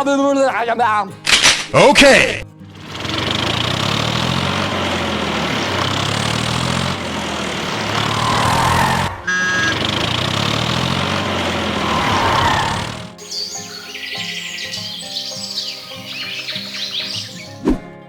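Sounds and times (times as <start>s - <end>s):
engine running steadily: 2.6s - 17.6s.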